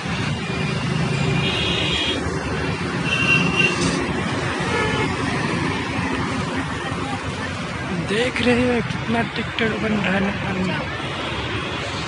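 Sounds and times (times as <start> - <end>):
busy road traffic: 0.0 - 12.0.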